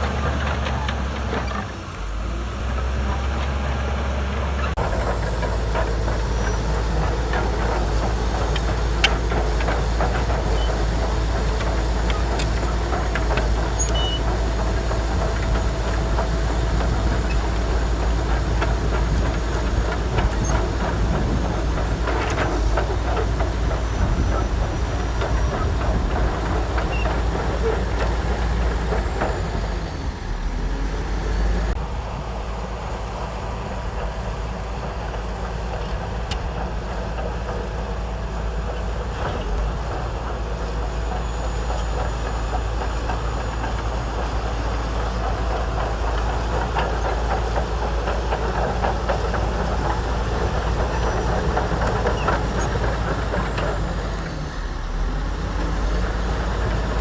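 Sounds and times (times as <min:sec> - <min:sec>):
bulldozer diesel engine running: 0:00.0 - 0:57.0
steel tracks clattering and squealing: 0:00.0 - 0:57.0.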